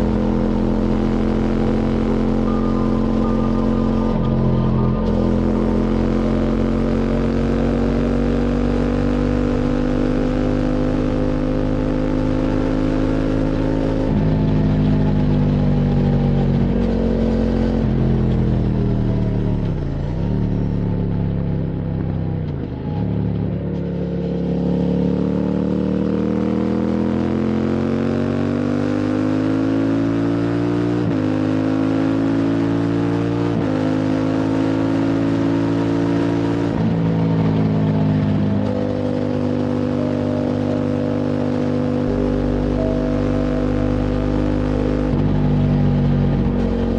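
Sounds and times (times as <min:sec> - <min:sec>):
motorcycle engine: 0:00.0 - 0:46.9.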